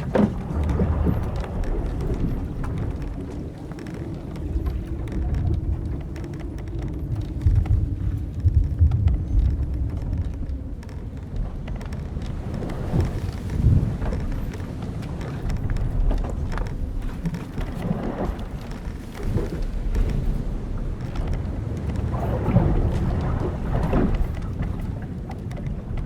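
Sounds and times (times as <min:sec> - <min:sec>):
wind and waves rumbling: 0:00.0 - 0:26.0.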